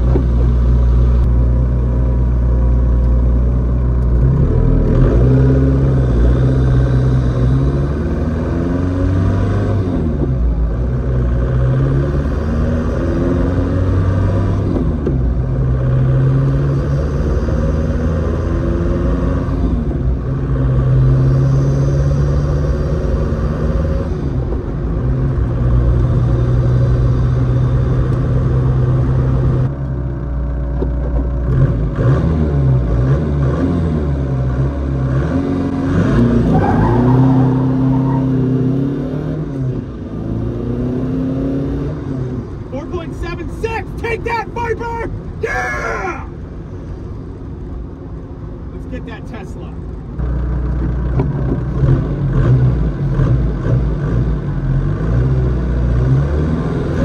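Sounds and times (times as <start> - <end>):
car engine running while driving: 0.0 - 57.0.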